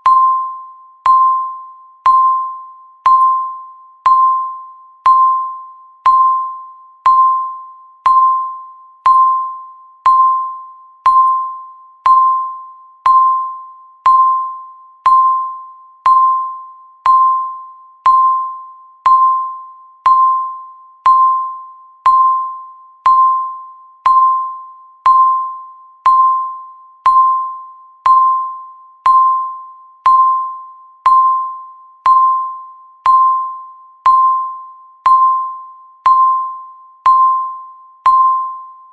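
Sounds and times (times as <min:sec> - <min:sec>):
countdown timer beeping: 0:00.0 - 0:38.9.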